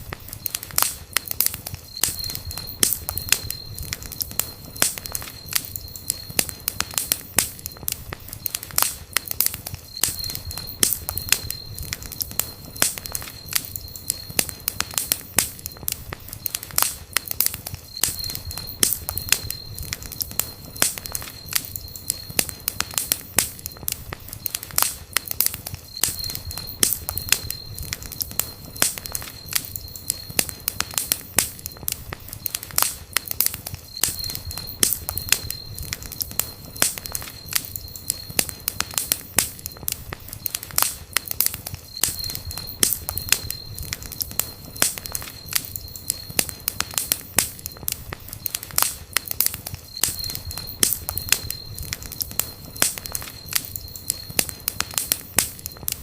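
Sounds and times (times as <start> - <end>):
campfire popping and crackling: 0.0 - 56.0.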